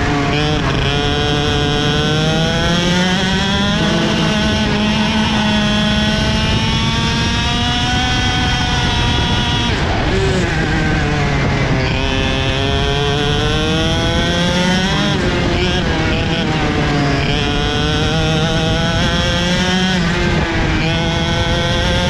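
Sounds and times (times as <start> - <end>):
kart engine revving: 0.0 - 22.0.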